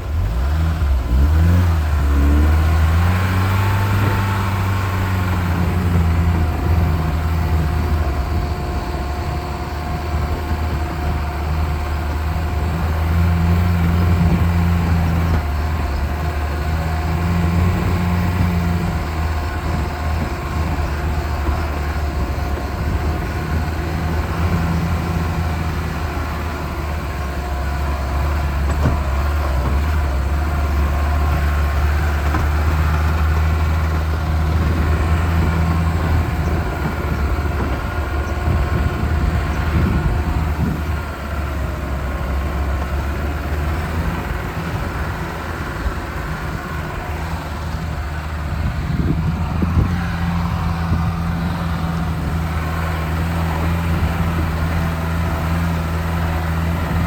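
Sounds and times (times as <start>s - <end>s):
car engine drone: 0.0s - 57.0s
road noise: 0.0s - 57.0s.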